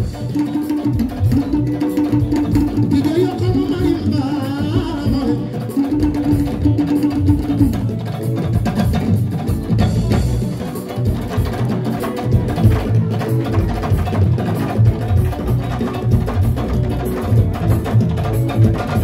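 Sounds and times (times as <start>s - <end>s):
bass line: 0.0s - 19.0s
fast hand-drum percussion: 0.0s - 19.0s
live music over loudspeakers: 0.0s - 19.0s.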